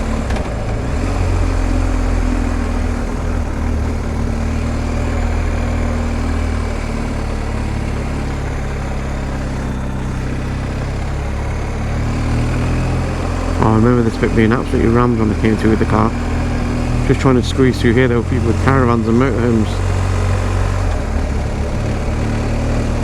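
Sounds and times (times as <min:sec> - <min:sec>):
motorcycle engine running: 0:00.0 - 0:23.0
road noise: 0:00.0 - 0:23.0.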